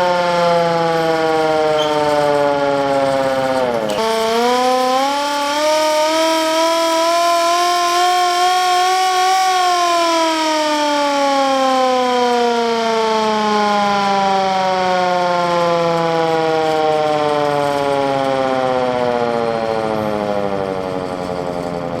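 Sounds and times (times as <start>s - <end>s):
hand-cranked siren winding down: 0.0s - 22.0s.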